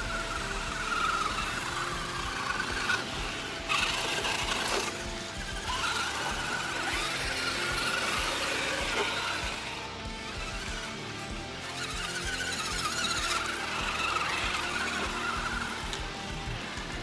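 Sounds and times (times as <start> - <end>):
rc truck electric motors whining: 0.0 - 17.0.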